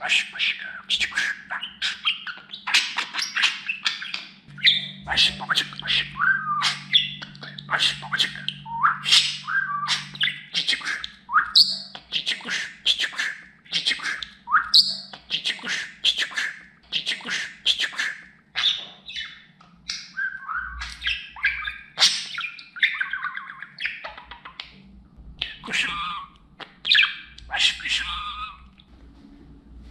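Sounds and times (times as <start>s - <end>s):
budgerigar warbling and chattering: 0.0s - 24.8s, 25.4s - 28.7s.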